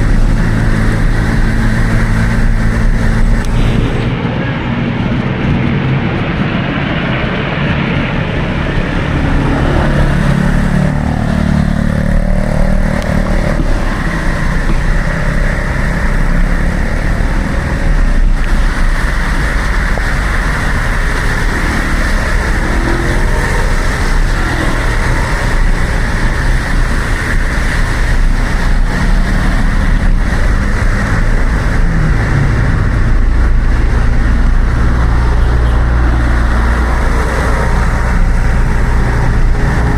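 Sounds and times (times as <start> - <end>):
cars passing: 0.0 - 39.9
low traffic rumble: 0.0 - 39.9
motorcycles passing: 0.0 - 39.9
tyres on wet road: 0.0 - 39.9.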